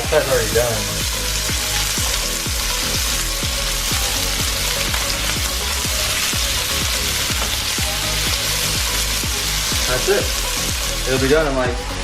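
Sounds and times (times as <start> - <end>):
chicken sizzling in a pan: 0.0 - 11.6
background music with bass beat: 0.0 - 12.0.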